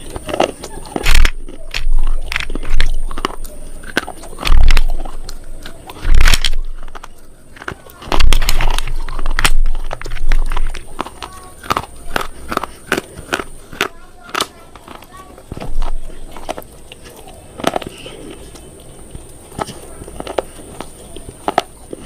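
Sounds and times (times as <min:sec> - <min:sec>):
crunching and crackling clicks: 0:00.0 - 0:22.0.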